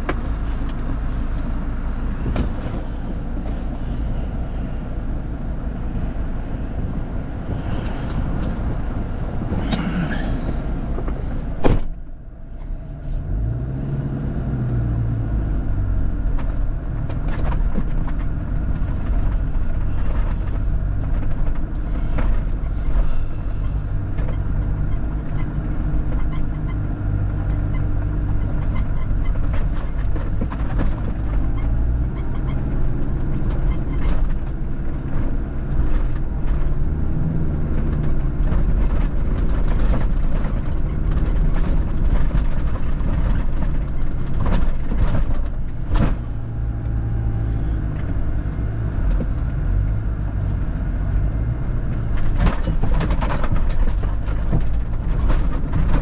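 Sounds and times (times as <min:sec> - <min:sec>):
off-road vehicle engine: 0:00.0 - 0:56.0.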